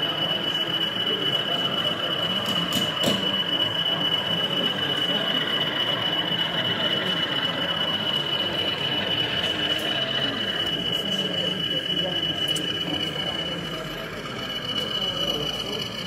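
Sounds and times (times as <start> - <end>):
crowd murmur: 0.0 - 16.0
model locomotive running: 0.0 - 16.0
steady high-pitched whine: 0.0 - 16.0.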